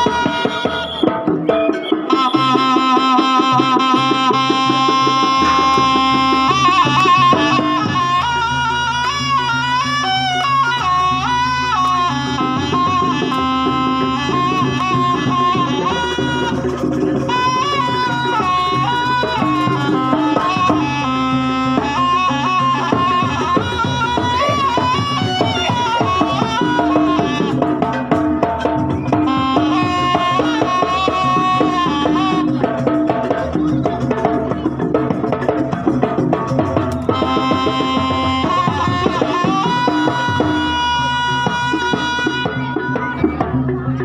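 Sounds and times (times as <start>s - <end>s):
fast even drumming: 0.0s - 44.0s
low gamelan notes: 0.0s - 44.0s
reedy shawm melody: 0.0s - 44.0s.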